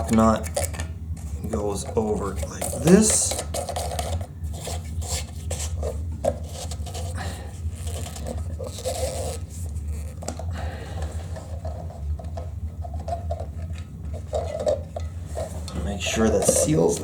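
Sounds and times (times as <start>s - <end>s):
plastic scratching on plastic: 0.0s - 17.0s
steady low hum: 0.0s - 17.0s.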